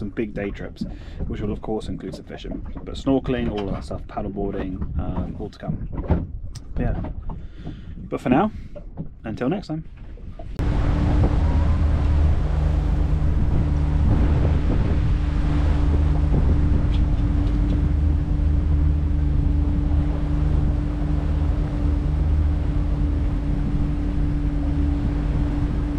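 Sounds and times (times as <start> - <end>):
wind buffeting microphone: 0.0 - 8.2, 10.2 - 25.9
boat engine droning: 0.0 - 25.9.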